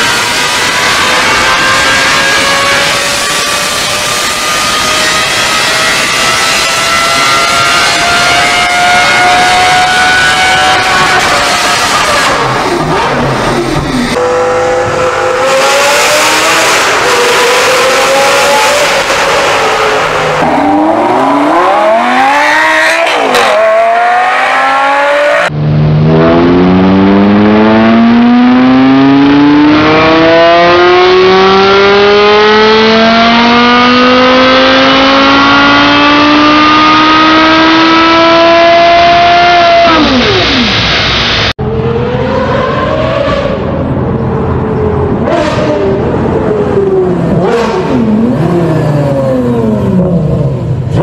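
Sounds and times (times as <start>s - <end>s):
car engine revving on dyno: 0.0s - 51.0s.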